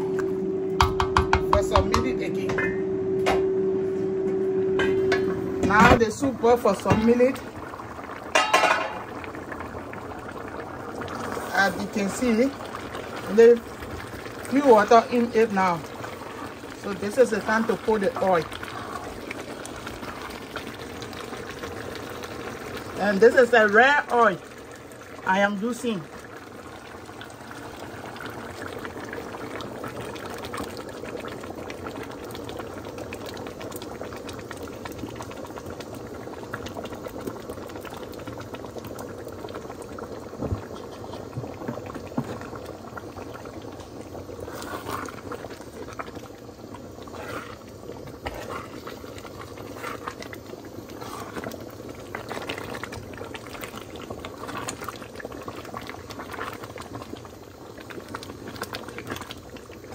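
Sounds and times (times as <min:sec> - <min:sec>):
soup boiling and bubbling: 0:00.0 - 0:59.9.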